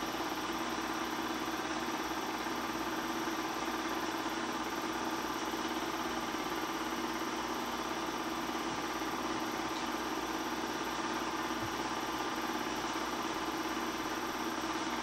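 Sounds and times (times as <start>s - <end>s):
film projector humming: 0.0s - 15.0s.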